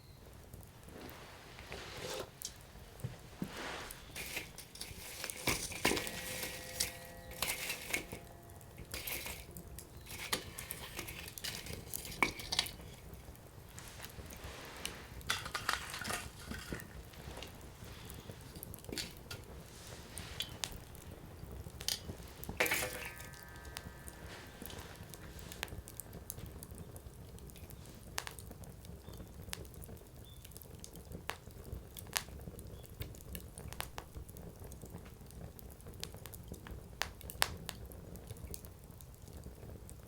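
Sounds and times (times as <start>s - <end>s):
firewood crackling and popping: 0.0s - 40.0s.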